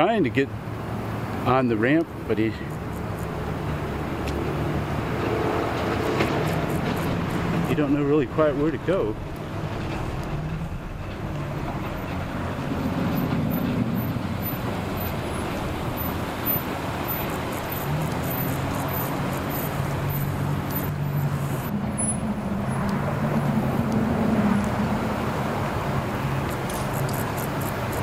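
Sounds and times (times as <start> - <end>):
steady outdoor noise: 0.0 - 28.0.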